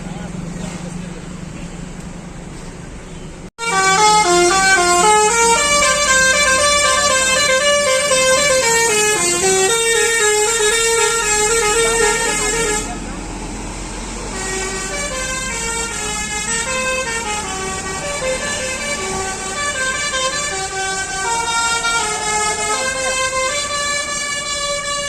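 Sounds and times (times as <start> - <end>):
bus engine running: 0.0 - 25.0
musical bus horn tune: 3.6 - 13.2, 14.2 - 25.0.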